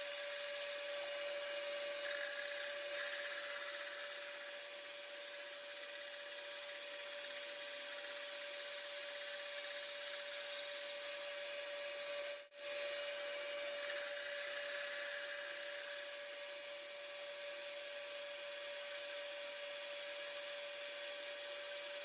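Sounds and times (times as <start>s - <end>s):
machine tool whining: 0.0s - 19.3s.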